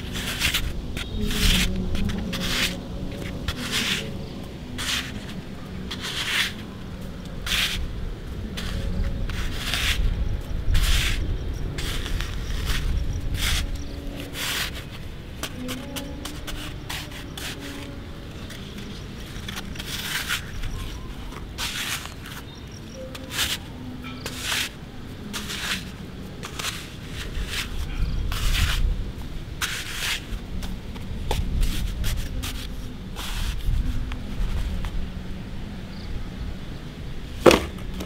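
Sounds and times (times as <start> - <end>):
plastic shovels scraping soil: 0.0 - 7.9, 8.5 - 28.9, 29.6 - 34.9.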